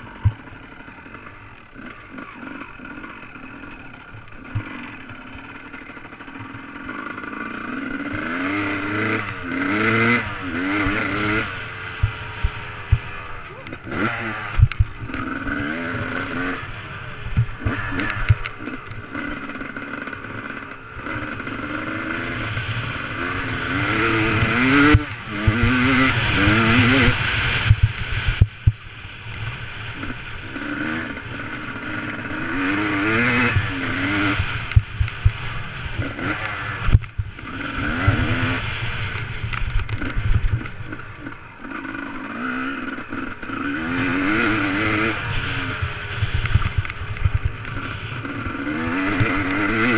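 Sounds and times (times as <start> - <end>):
motorcycle engine revving: 0.0 - 49.9
steady rushing noise: 0.0 - 49.9.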